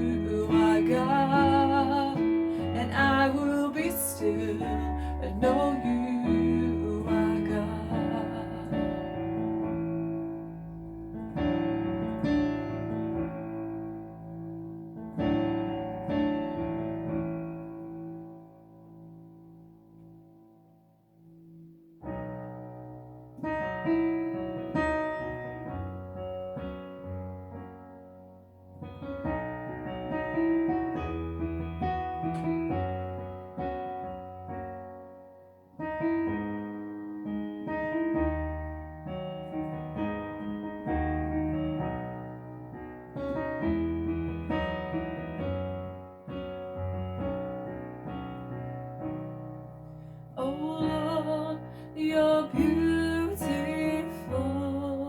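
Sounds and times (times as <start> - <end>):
piano chords: 0.0 - 55.0.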